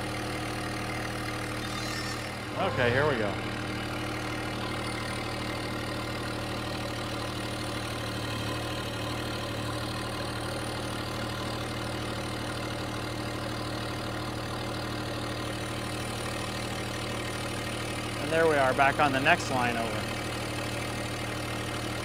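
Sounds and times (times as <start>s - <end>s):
tractor diesel engine droning: 0.0s - 22.0s.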